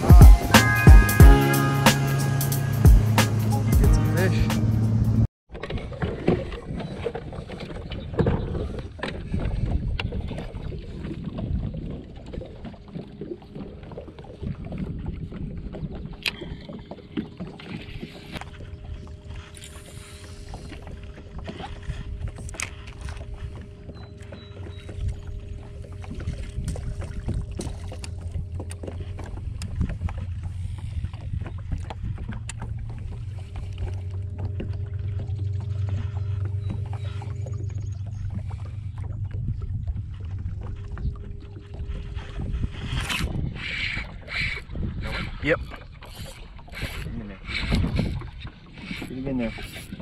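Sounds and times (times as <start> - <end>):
water lapping on boat: 0.0 - 50.0
wind: 0.0 - 50.0.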